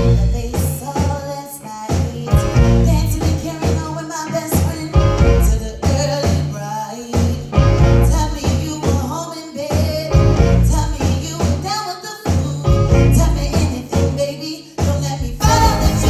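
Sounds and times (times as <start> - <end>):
live band playing: 0.0 - 16.0
person singing: 0.0 - 16.0.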